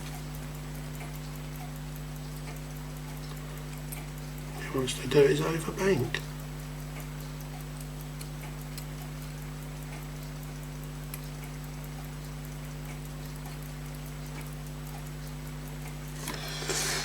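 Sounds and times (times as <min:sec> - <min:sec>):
steady electrical hum: 0:00.0 - 0:17.0
pocket watch ticking rapidly: 0:00.3 - 0:16.0.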